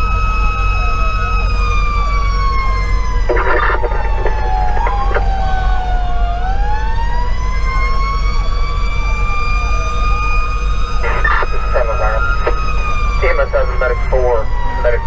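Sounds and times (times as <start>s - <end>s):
diesel engine rumbling: 0.0s - 15.0s
fire engine sirens wailing: 0.0s - 15.0s.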